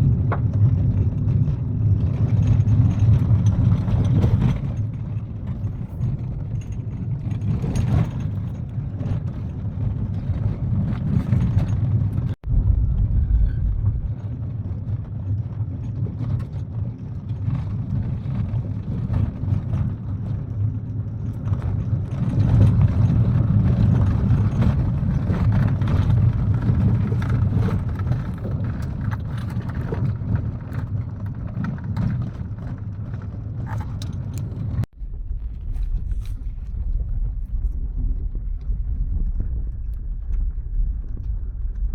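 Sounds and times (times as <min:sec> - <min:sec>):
car engine and road rumble: 0:00.0 - 0:41.9
gravel crackling under tyres: 0:00.0 - 0:41.9.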